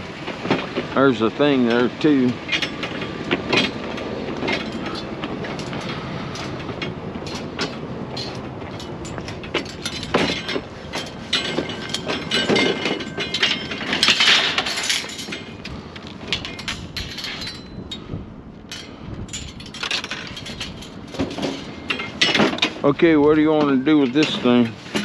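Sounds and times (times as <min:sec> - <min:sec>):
junk and metal clattering: 0:00.0 - 0:25.0
steady noisy rumble: 0:00.0 - 0:25.0.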